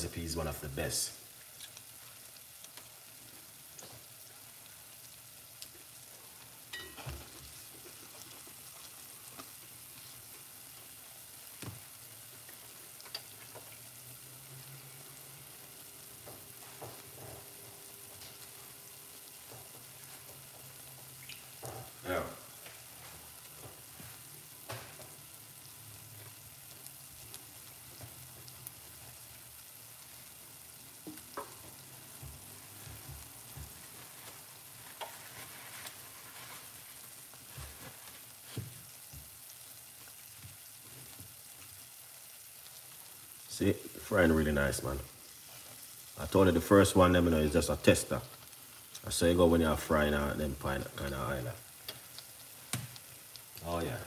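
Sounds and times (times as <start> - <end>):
dumplings sizzling in hot oil: 0.0 - 54.0.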